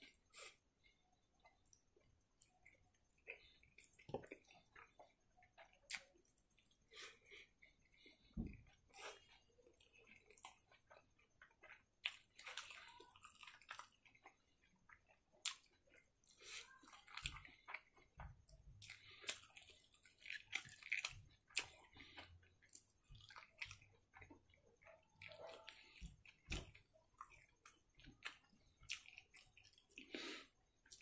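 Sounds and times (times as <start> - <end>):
wet chewing and lip smacks: 0.0 - 31.0.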